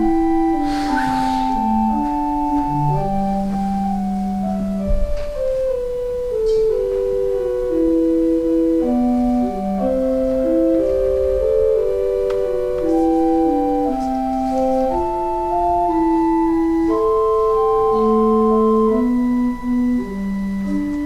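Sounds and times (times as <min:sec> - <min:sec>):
church organ playing chords: 0:00.0 - 0:21.0.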